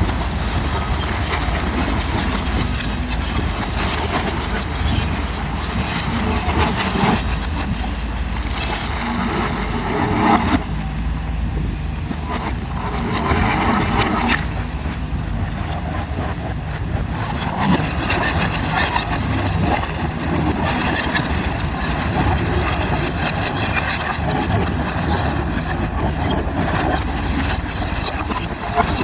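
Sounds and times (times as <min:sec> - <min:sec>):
diesel engines rumbling: 0:00.0 - 0:29.0
uneven mechanical noise: 0:00.0 - 0:29.0.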